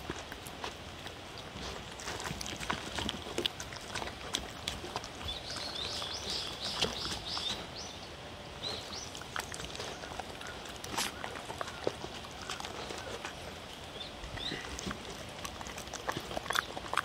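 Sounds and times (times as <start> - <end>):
dogs chewing and licking: 0.0 - 17.0.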